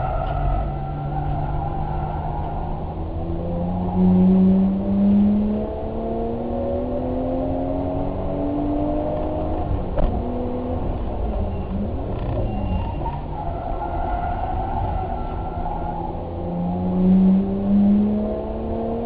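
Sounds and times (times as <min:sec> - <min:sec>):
vehicle engine accelerating: 0:00.0 - 0:19.0.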